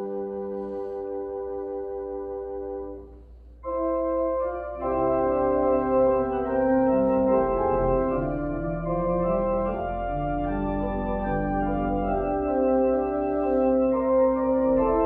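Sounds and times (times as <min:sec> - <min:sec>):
church organ playing chords: 0:00.0 - 0:15.0.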